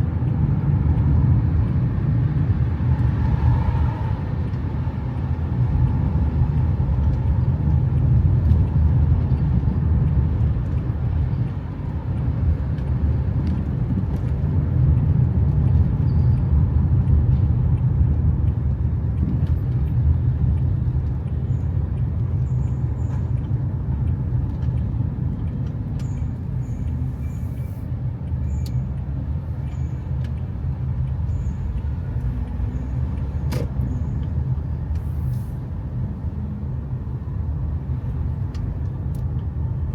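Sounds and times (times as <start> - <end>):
car rumbling on the move: 0.0 - 39.9.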